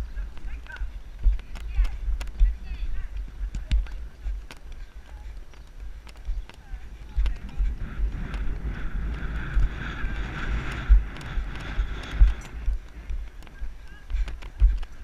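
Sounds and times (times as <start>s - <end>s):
horse hooves thudding: 0.0s - 15.0s
wind buffeting microphone: 0.0s - 15.0s.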